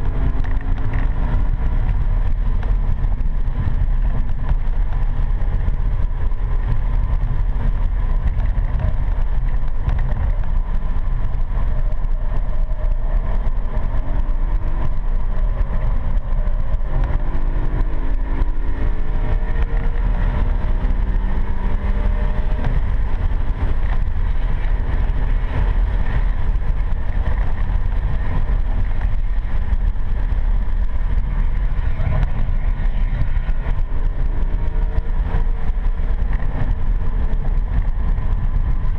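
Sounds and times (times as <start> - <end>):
car engine accelerating: 0.0 - 38.9
road and cabin rumble: 0.0 - 38.9.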